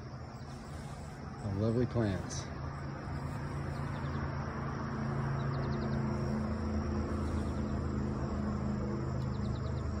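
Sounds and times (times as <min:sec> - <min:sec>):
insects chirping in trills: 0:00.0 - 0:10.0
steady low hum: 0:00.0 - 0:10.0.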